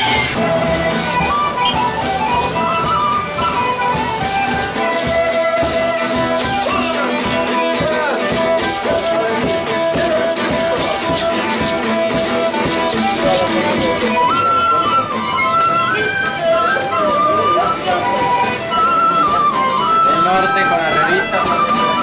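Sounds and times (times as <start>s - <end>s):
instrumental music with steady beat: 0.0s - 22.0s.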